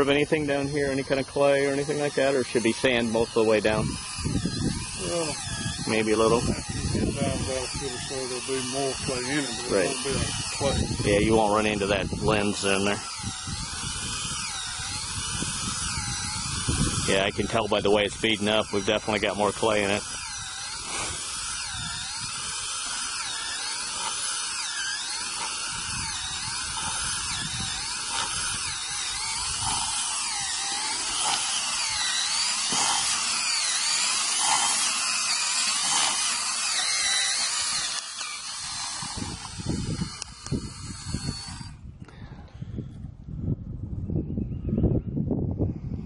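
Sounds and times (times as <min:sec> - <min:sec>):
cordless drill boring into soil: 0:00.0 - 0:43.1.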